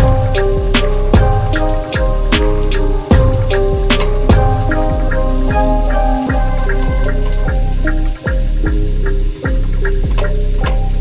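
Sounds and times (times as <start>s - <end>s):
electronic music with bass kicks: 0.0s - 11.0s.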